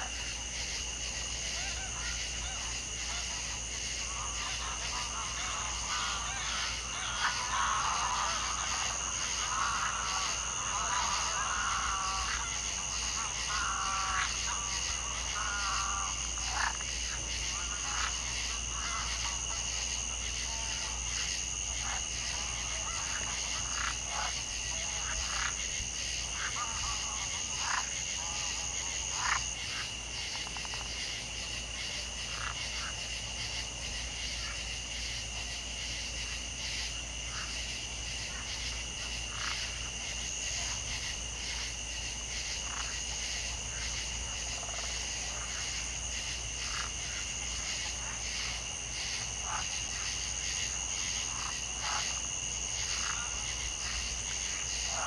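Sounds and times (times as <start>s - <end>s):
frog calls: 0.0s - 55.0s
high insect trill: 0.0s - 55.0s
lower insect trill: 0.0s - 55.0s.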